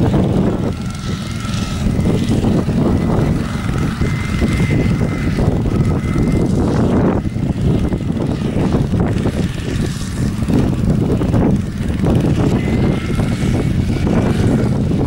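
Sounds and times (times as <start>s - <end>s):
tractor engine chugging: 0.0s - 15.0s.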